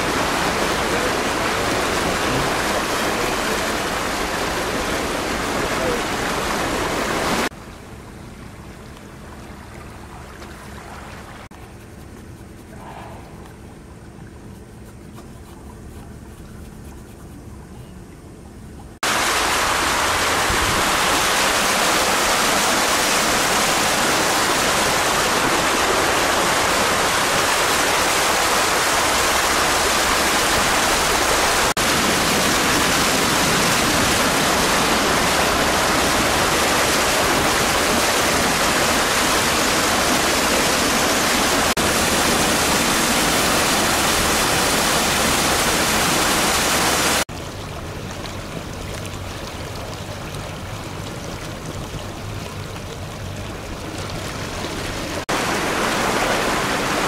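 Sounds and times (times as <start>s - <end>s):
rushing water: 0.0s - 11.6s, 13.3s - 57.0s.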